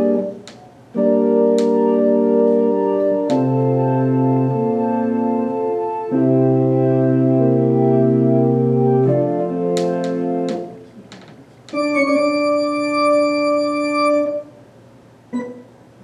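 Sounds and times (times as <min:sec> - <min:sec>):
electronic organ chords: 0:00.0 - 0:11.0, 0:11.7 - 0:14.6.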